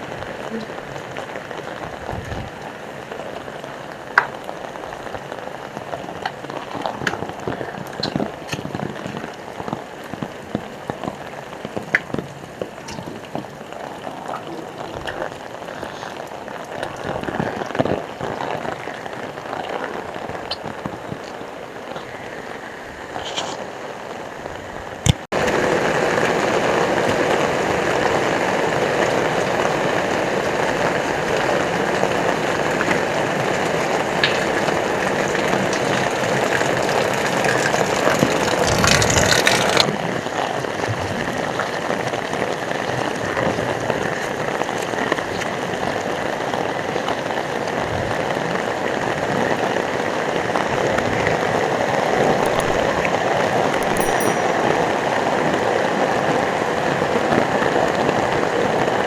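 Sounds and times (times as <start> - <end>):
heavy rain pouring: 0.0 - 24.4, 25.4 - 53.3.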